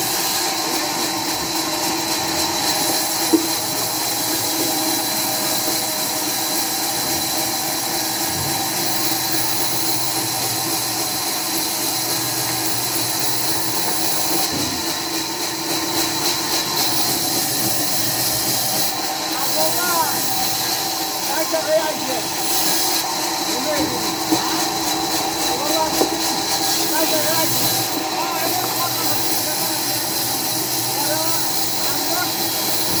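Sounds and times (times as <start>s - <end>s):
constant machine hum: 0.0s - 33.0s
sawmill machinery hissing: 0.0s - 33.0s.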